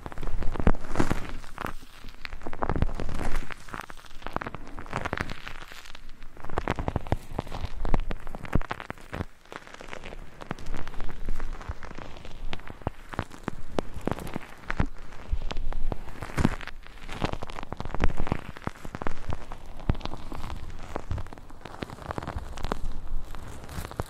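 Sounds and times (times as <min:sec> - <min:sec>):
crackling clicks and scratches: 0:00.0 - 0:24.0.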